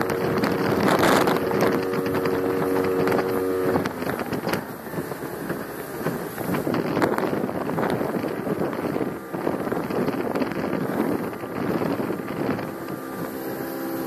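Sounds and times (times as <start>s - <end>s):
motorboat engine: 0.0s - 14.0s
wind buffeting microphone: 0.0s - 14.0s.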